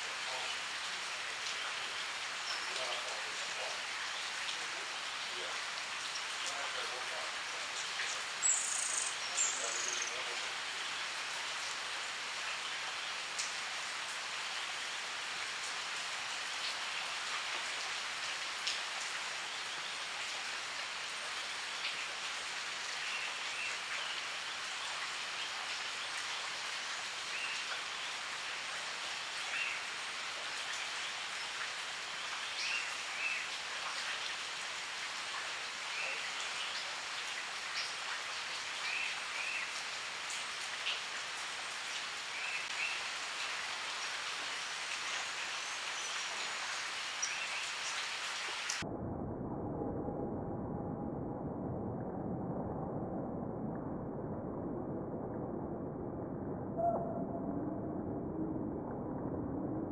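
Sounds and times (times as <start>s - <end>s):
rain falling on leaves: 0.0s - 48.8s.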